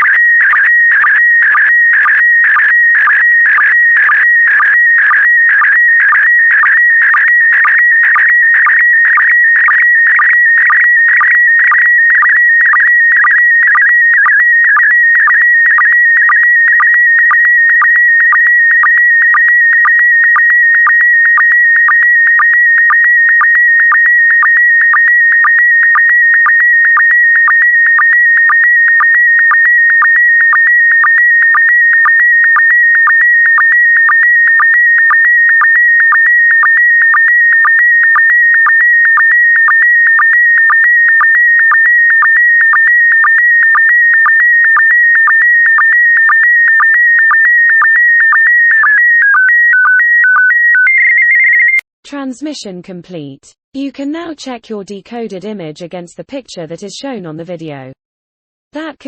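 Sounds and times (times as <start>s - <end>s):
electronic image signal tone: 0.0s - 51.8s.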